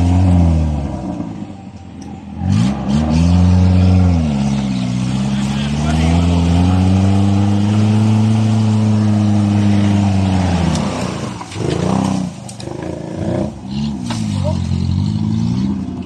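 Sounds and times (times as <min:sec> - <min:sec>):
off-road engine revving hard: 0:00.0 - 0:01.5, 0:02.3 - 0:16.0.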